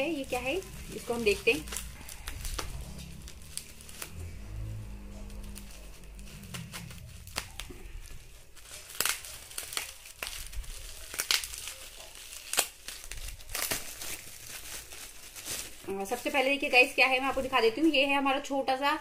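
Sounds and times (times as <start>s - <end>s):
plastic packaging crinkling: 0.0s - 18.2s.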